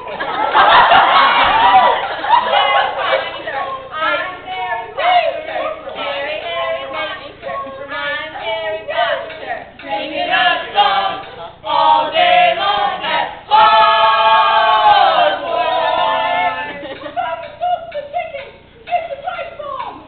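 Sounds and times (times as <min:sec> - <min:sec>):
voices singing a cappella chant: 0:00.0 - 0:20.0.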